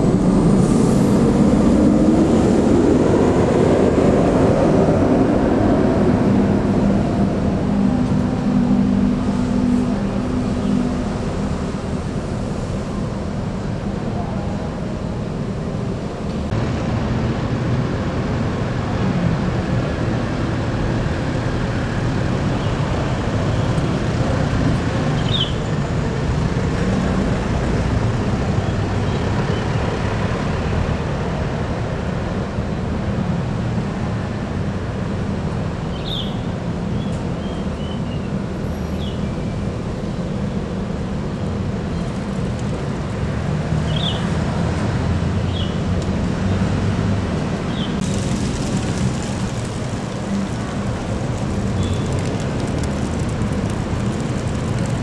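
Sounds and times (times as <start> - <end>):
bus engines rumbling: 0.0 - 55.0
traffic noise: 0.0 - 55.0.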